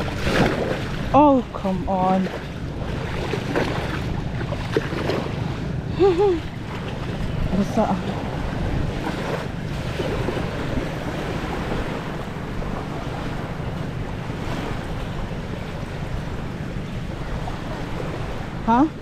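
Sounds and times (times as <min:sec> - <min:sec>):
ocean surf: 0:00.0 - 0:19.0
wind buffeting microphone: 0:00.0 - 0:19.0.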